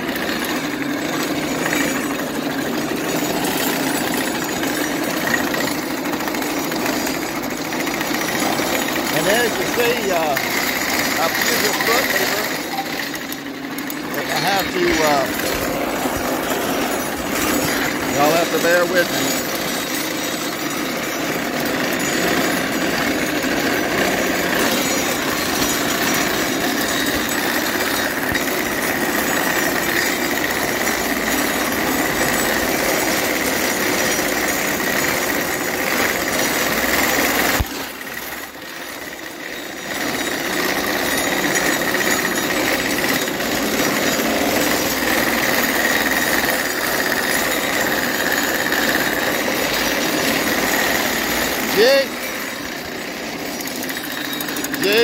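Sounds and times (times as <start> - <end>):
mowing machine chattering: 0.0 - 55.0.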